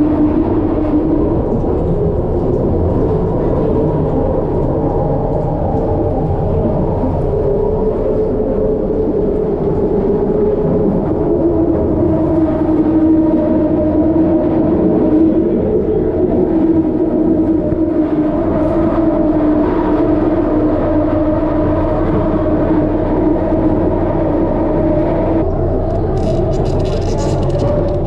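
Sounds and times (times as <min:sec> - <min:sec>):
train rolling rumble with hum: 0:00.0 - 0:28.0.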